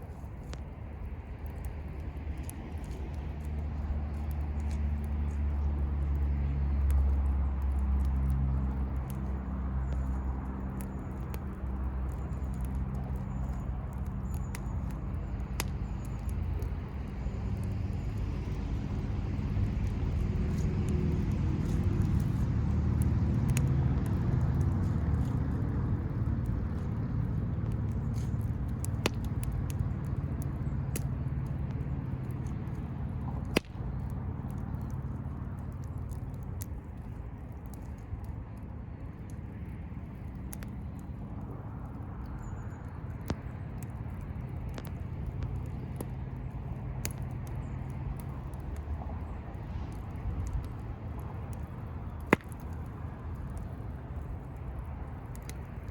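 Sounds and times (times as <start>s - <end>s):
bonfire crackling and popping: 0.0s - 55.9s
low fire rumble: 0.0s - 55.9s.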